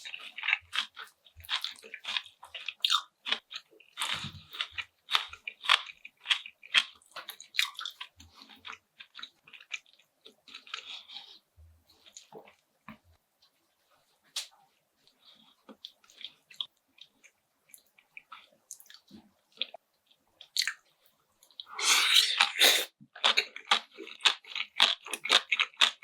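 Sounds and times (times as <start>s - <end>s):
crunchy chewing: 0.0s - 13.0s, 14.3s - 26.0s.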